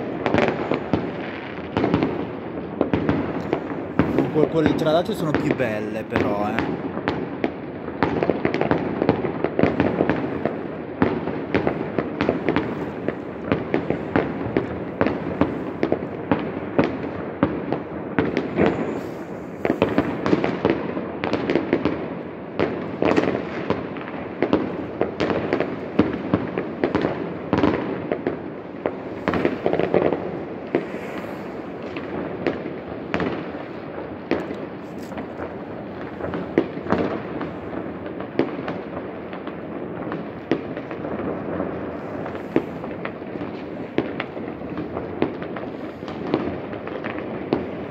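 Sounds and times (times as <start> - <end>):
distant fireworks bangs and pops: 0.0 - 47.9.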